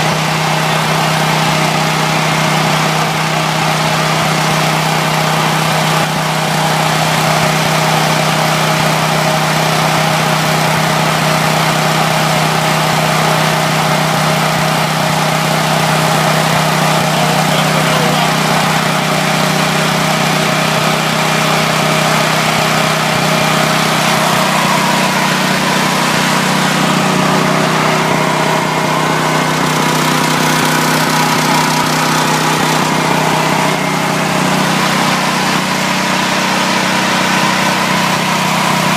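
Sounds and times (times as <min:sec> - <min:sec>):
generator engine humming: 0:00.0 - 0:38.9.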